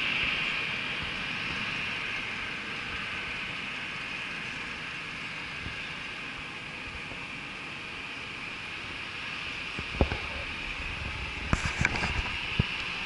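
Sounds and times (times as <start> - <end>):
distant jet engines rushing: 0.0 - 13.0.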